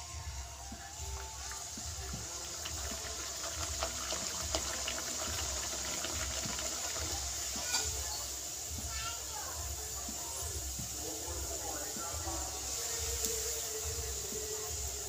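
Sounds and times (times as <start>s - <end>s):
dough sizzling in hot oil: 0.0s - 15.0s.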